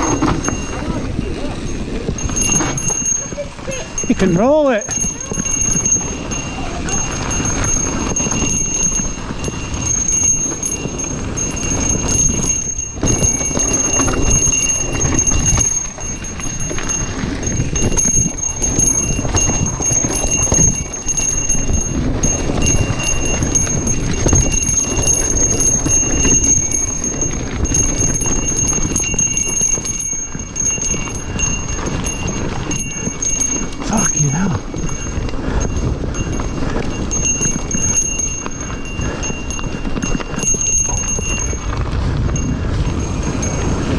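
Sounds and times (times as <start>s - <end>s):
bike rattling over dirt trail: 0.0s - 43.9s
thin high ringing tone: 0.0s - 43.9s
wind noise: 0.0s - 43.9s.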